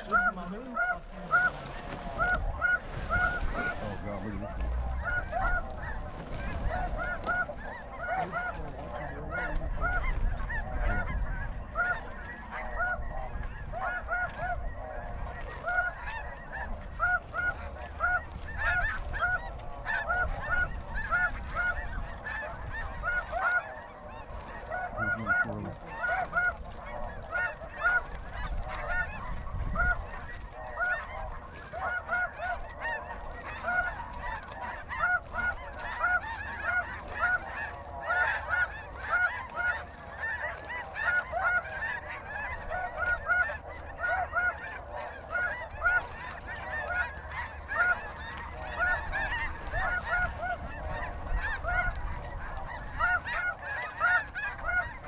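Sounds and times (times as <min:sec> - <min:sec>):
geese honking chorus: 0:00.0 - 0:55.0.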